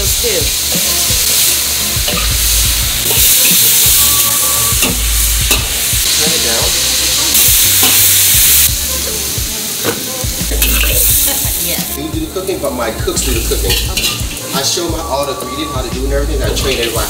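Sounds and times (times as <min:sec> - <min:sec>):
meat sizzling in a wok: 0:00.0 - 0:15.4, 0:16.6 - 0:17.0.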